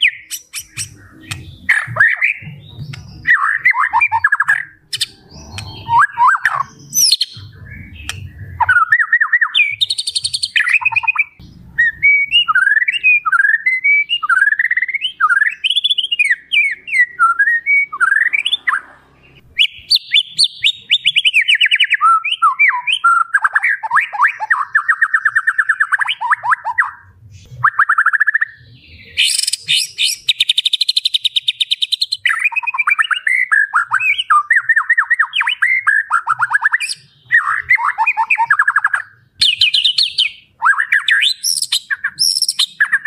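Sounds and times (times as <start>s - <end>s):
songbird singing whistles and trills: 0.0s - 43.0s.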